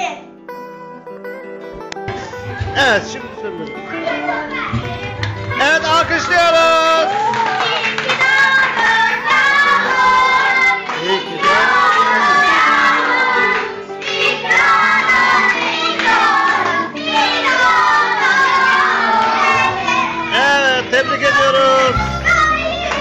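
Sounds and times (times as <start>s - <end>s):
instrumental backing music: 0.0s - 23.0s
children singing: 3.6s - 23.0s.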